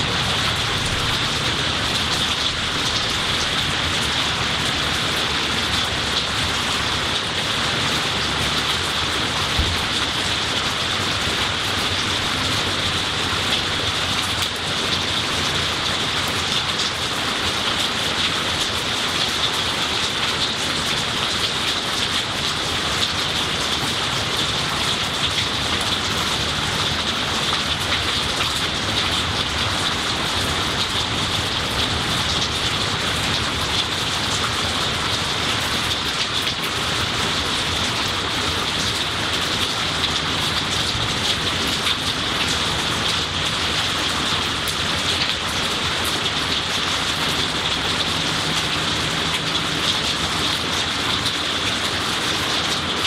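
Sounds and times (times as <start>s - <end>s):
rain on leaves: 0.0s - 53.0s.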